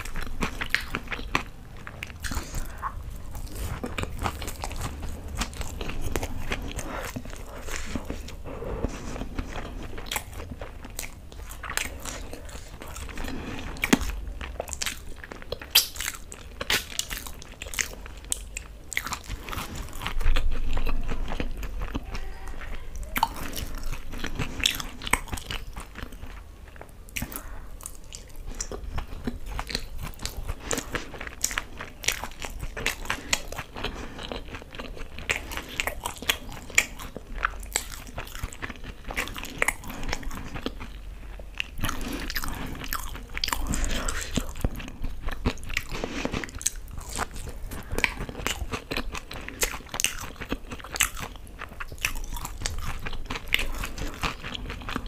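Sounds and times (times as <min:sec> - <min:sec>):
crunchy chewing of fried snacks: 0:00.0 - 0:55.0.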